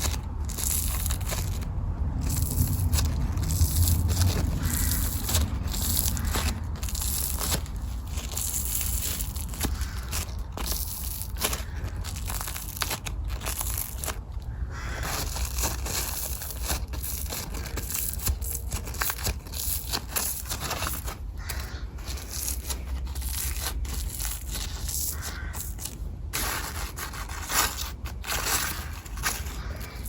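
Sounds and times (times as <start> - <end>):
dry crackling rustle: 0.0 - 30.0.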